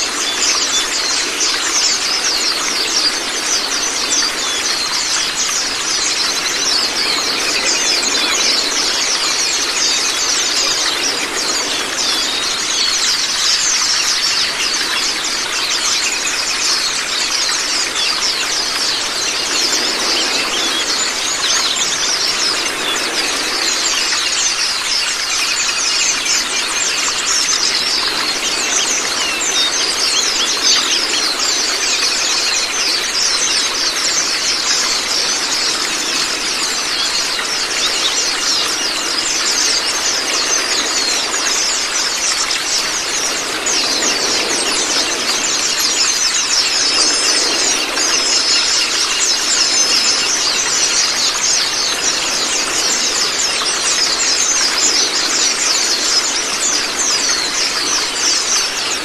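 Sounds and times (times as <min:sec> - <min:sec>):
flock of birds twittering: 0:00.0 - 0:59.0
running water rushing: 0:00.0 - 0:59.0.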